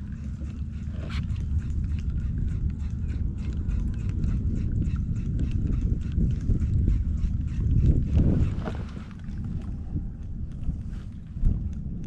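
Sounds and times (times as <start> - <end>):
small waves lapping against hull: 0.0 - 12.0
wind rumbling on microphone: 0.0 - 12.0.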